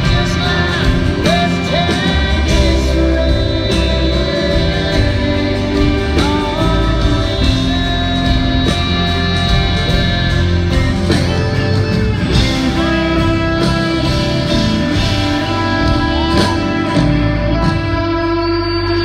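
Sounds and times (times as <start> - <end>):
drums: 0.0 - 19.0
electric guitar bent notes: 0.0 - 19.0
strummed acoustic guitar: 0.0 - 19.0.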